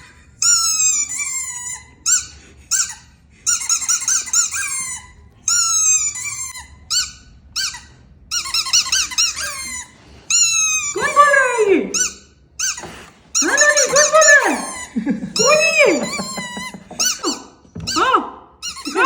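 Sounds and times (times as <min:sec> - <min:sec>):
high-pitched squeaks: 0:00.6 - 0:11.2, 0:12.0 - 0:18.0.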